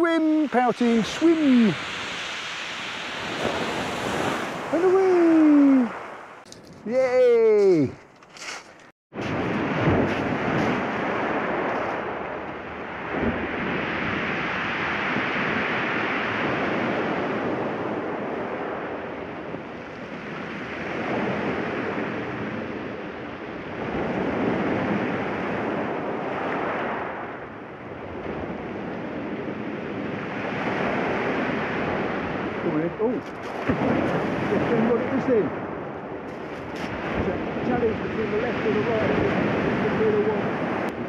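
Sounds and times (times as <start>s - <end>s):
waves washing up shingle beach: 0.0s - 8.6s, 9.2s - 27.4s, 28.1s - 41.0s
wind on microphone: 0.0s - 41.0s.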